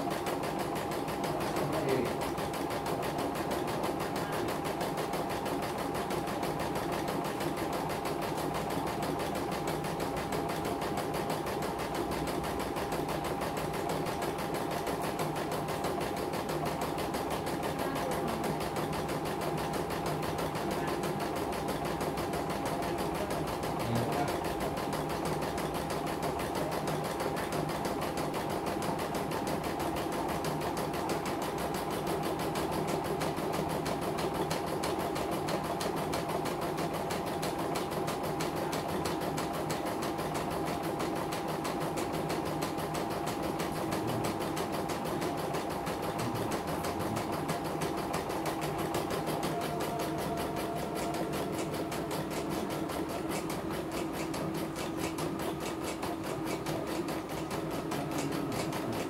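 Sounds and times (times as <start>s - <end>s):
embroidery machine stitching with hum: 0.0s - 59.0s.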